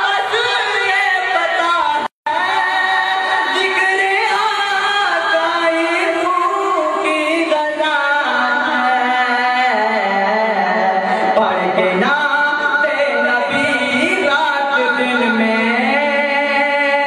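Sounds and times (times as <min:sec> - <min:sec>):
person singing devotional song: 0:00.0 - 0:17.0.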